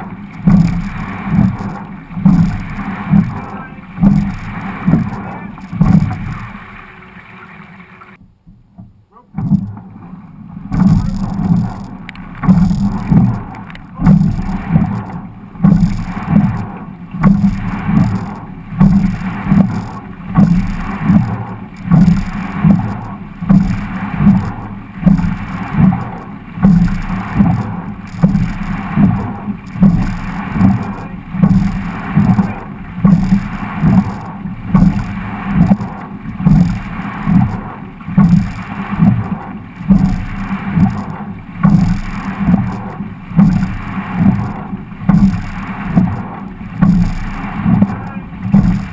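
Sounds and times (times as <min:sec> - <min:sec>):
rowing boat water rush: 0:00.0 - 0:48.9.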